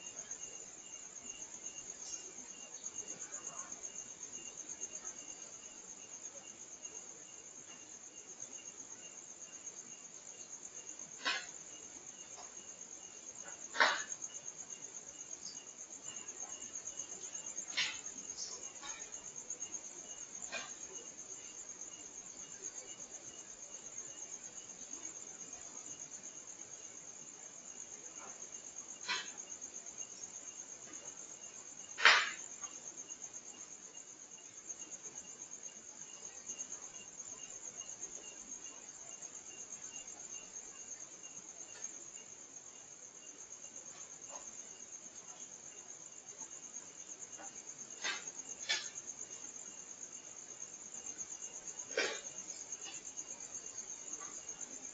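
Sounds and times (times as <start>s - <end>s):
crickets chirring: 0.0s - 54.9s.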